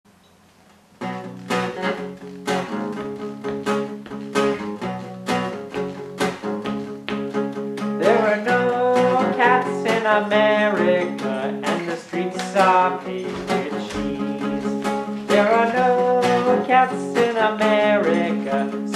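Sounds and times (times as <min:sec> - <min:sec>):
acoustic guitar strumming: 0:01.0 - 0:18.9
sliding melodic guitar line: 0:01.0 - 0:18.9.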